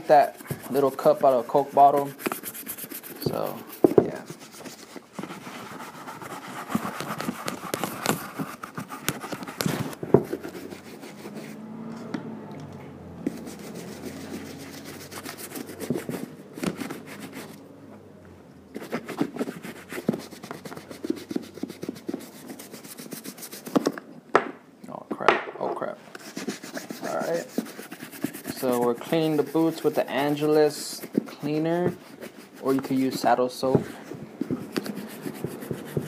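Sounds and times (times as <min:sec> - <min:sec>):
brush scrubbing leather boot: 0:00.0 - 0:11.4, 0:13.3 - 0:17.6, 0:18.8 - 0:23.7, 0:26.2 - 0:36.0.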